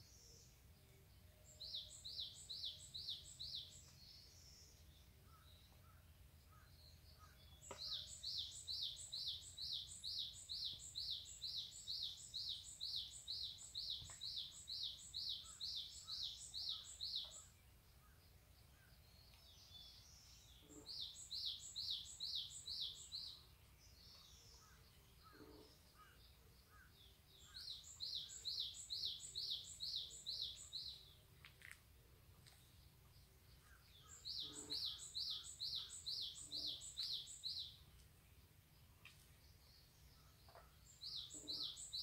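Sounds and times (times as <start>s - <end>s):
faint bird chirps: 0.0s - 42.0s.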